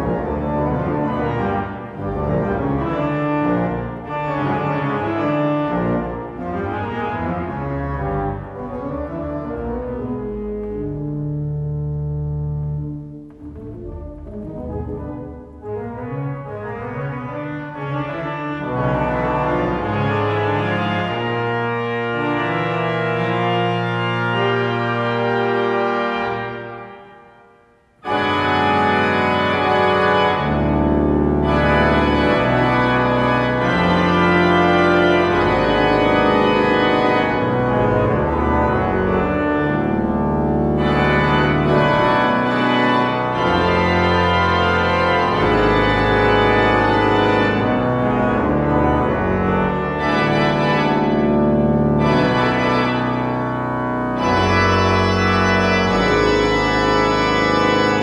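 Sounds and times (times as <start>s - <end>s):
pipe organ playing: 0.0s - 27.3s, 28.0s - 58.0s.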